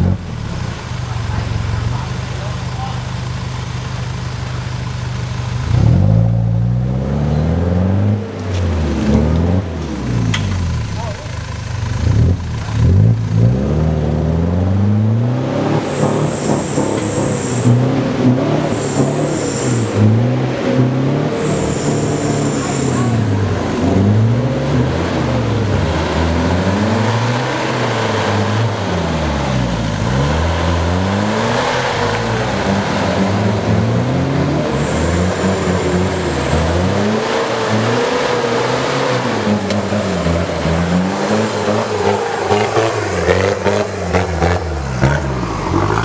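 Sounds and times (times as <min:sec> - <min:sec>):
pickup engine revving: 0:00.0 - 0:46.0.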